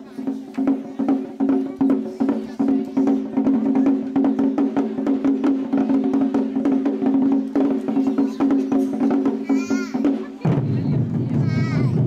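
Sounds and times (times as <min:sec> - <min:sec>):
drums struck in fast rhythm: 0:00.0 - 0:12.0.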